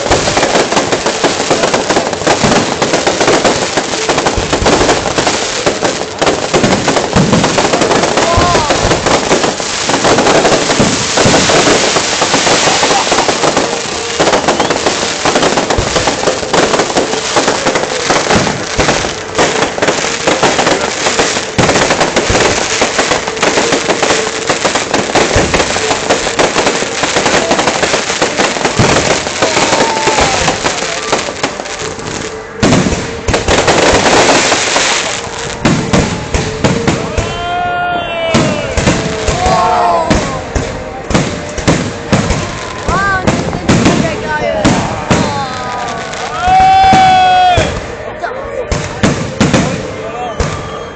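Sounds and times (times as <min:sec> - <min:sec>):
firework whistling glide: 0:00.0 - 0:47.9
fireworks bangs and crackling: 0:00.0 - 0:50.9.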